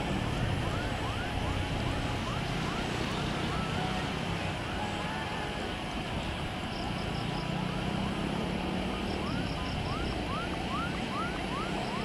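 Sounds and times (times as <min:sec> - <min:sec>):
distant jet engine: 0:00.0 - 0:12.0.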